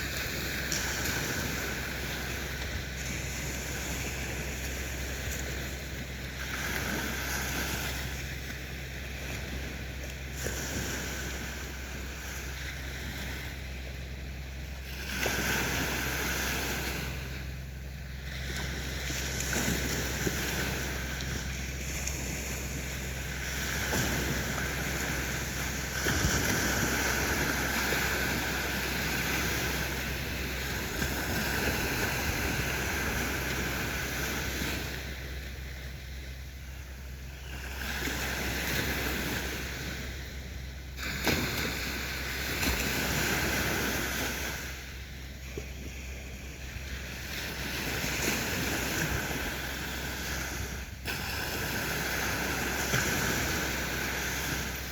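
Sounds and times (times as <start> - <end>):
waves washing onto beach: 0.0 - 54.9.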